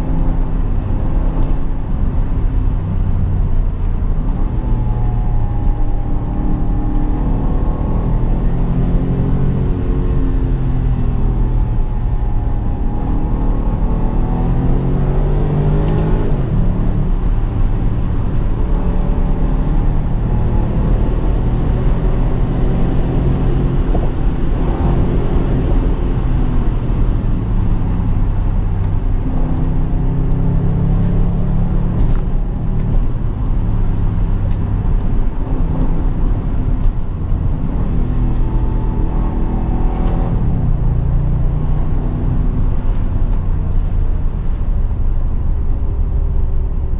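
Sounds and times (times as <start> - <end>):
car engine revving: 0.0 - 46.9
road and tyre rumble: 0.0 - 46.9.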